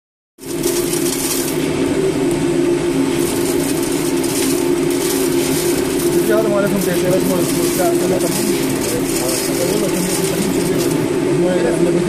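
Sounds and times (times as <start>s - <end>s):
fryer machine hum: 0.4s - 12.0s.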